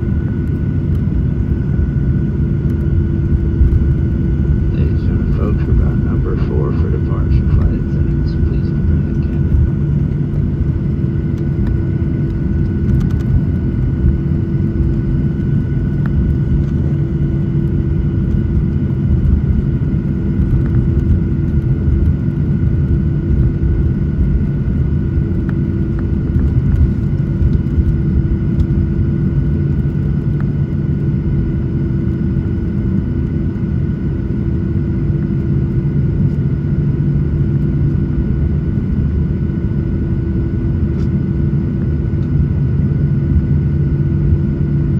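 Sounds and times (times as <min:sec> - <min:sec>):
jet engines rumbling in cabin: 0:00.0 - 0:44.9.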